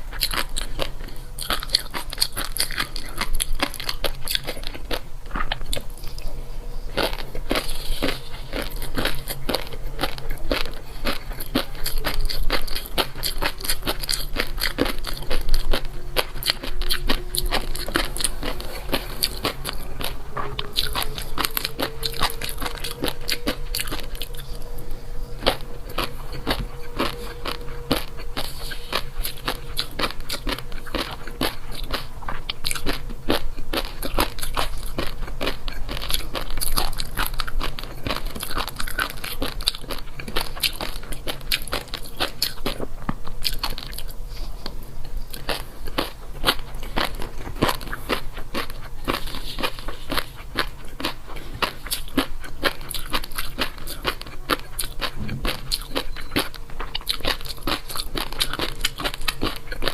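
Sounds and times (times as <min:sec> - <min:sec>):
chewing crunchy food: 0:00.0 - 0:59.9.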